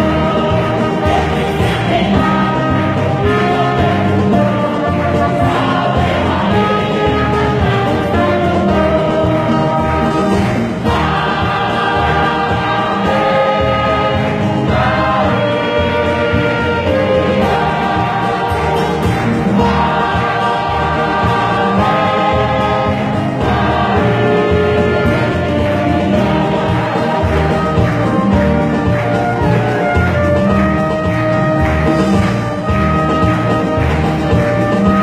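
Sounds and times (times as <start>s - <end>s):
choir singing a hymn: 0.0s - 30.2s
brass: 0.0s - 35.0s
keyboard: 0.0s - 35.0s.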